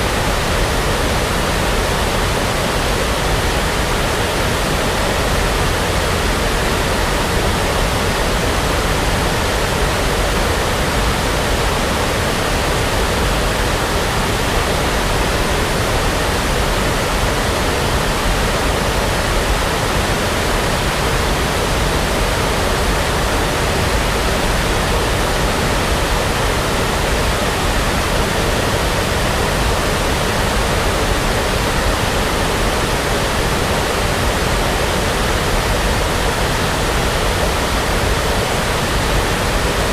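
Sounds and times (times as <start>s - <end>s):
steady brown noise hiss: 0.0s - 39.9s.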